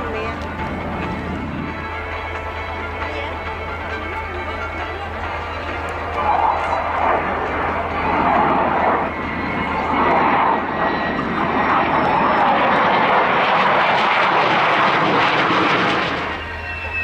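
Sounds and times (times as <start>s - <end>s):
fighter jet engine roar: 0.0s - 17.0s.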